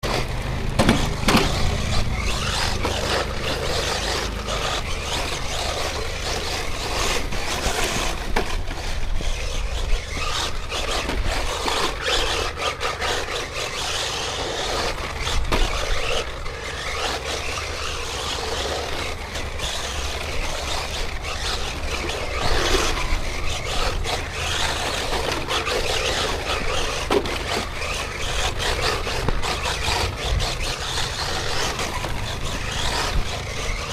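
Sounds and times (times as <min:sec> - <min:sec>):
toy car tyres rolling over dirt: 0:00.0 - 0:33.9.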